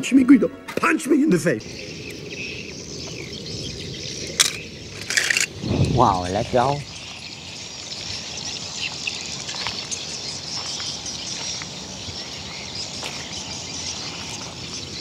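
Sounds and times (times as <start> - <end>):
insects hissing: 1.6 - 15.0.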